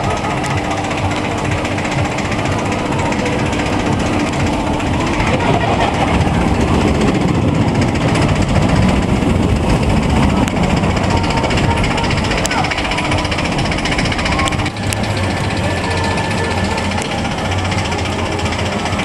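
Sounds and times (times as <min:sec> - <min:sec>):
roller coaster rattling rumble: 0:00.0 - 0:19.0.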